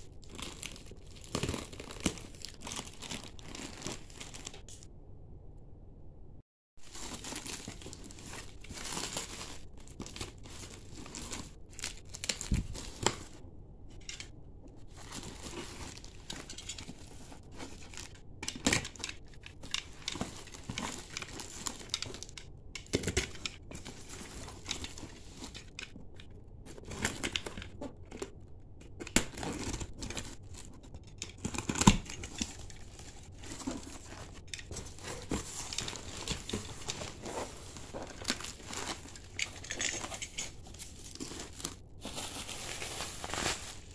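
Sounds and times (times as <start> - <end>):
plastic wrap crinkling and tearing: 0.0 - 4.8, 6.8 - 13.4, 14.9 - 26.0, 29.2 - 43.9.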